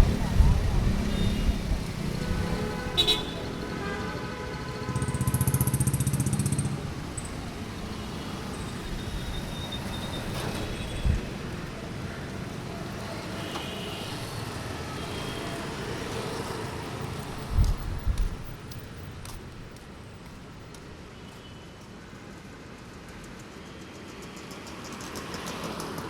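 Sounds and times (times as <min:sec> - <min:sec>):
steady traffic hum: 0:00.0 - 0:26.0.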